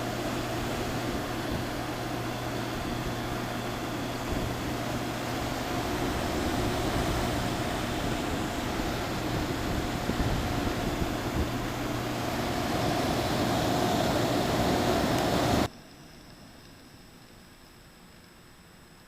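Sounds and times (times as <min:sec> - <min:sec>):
grinder motor humming and whining: 0:00.0 - 0:15.7.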